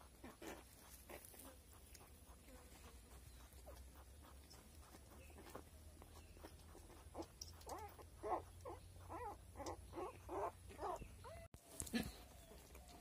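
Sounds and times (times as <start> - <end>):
piglet squeaking: 0.0 - 11.5.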